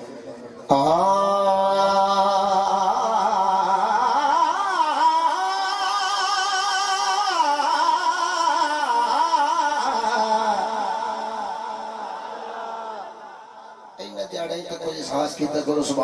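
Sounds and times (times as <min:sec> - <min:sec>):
man singing into a microphone: 0:00.6 - 0:14.0.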